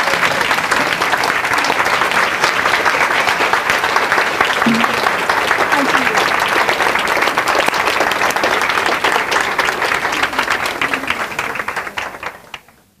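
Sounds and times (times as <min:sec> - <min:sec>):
large audience applauding: 0:00.0 - 0:12.9.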